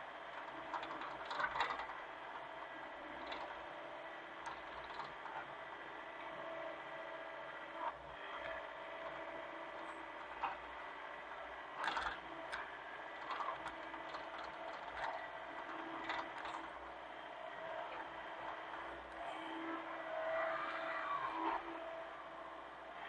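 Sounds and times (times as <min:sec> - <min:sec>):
excavator engine and hydraulics drone: 0:00.0 - 0:23.0.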